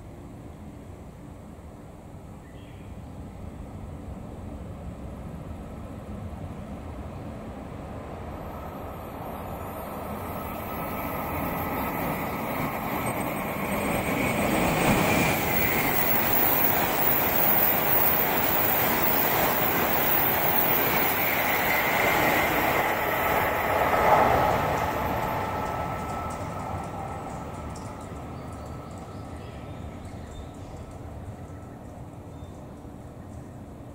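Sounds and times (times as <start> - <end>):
train rushing past: 3.7 - 33.9.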